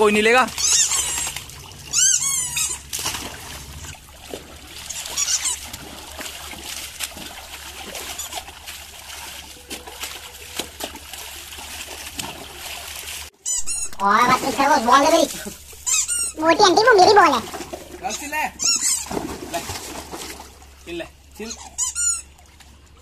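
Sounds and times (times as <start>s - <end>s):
water splashing in paddling pool: 0.0s - 13.4s, 14.0s - 23.0s.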